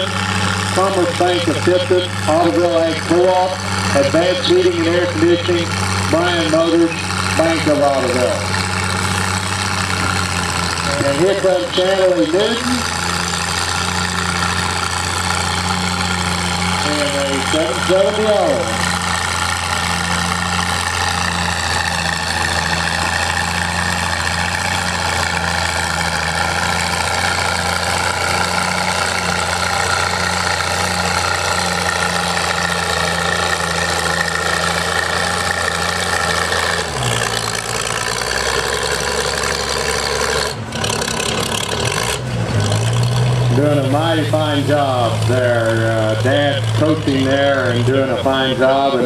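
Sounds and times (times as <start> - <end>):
tractor engine working hard: 0.0 - 49.0.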